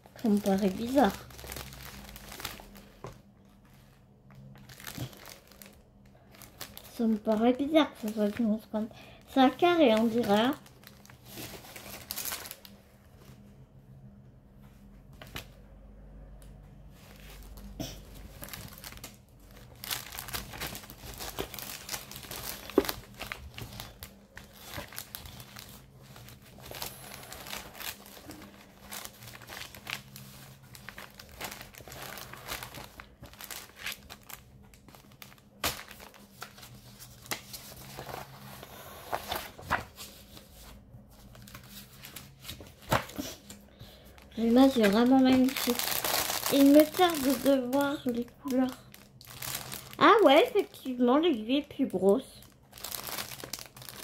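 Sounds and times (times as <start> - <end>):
packaging crinkling and rustling: 0.0 - 13.4, 16.8 - 51.1, 51.8 - 54.0.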